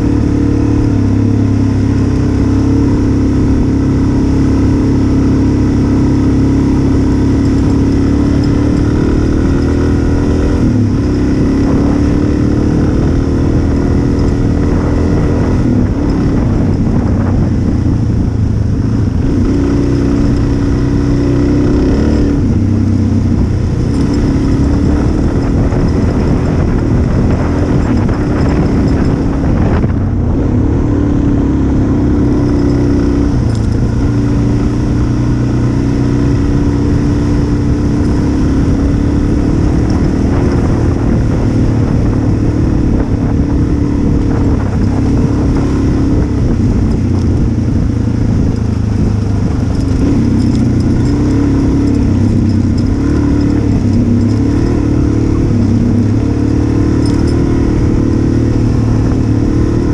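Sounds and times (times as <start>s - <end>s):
motorcycle engine running: 0.0s - 59.9s
wind rushing: 9.0s - 59.9s.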